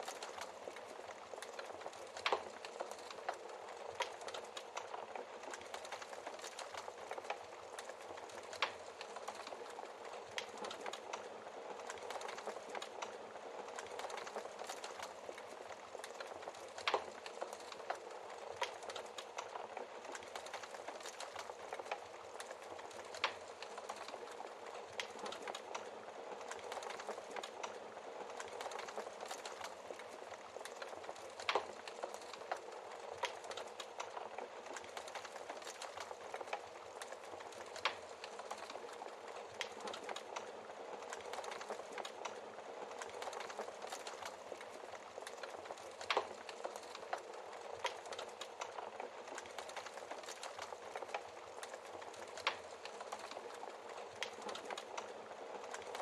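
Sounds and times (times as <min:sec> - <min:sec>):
burning logs popping: 0:00.0 - 0:56.0
wood fire crackling: 0:00.0 - 0:56.0.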